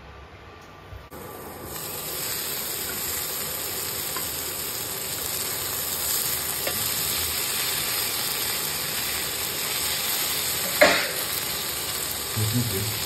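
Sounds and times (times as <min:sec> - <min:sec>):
food sizzling in a pan: 0:01.1 - 0:13.0.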